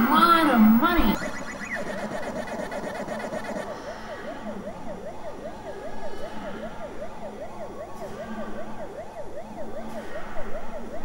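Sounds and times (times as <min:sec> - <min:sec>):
electronic siren-like warble: 0:00.0 - 0:11.0
low hum: 0:00.0 - 0:11.0.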